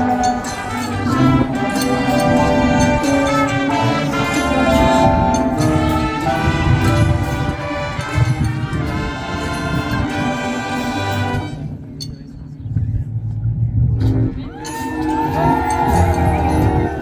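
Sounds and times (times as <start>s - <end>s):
marching band brass playing: 0.0s - 11.9s, 15.0s - 17.0s.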